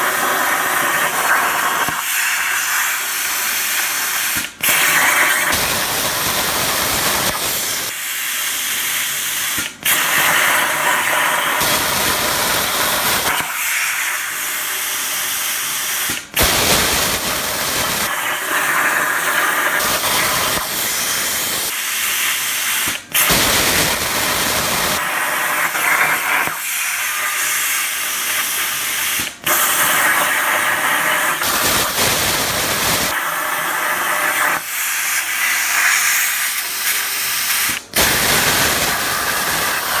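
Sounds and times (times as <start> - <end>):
plasma cutter torch hissing: 0.0 - 40.0.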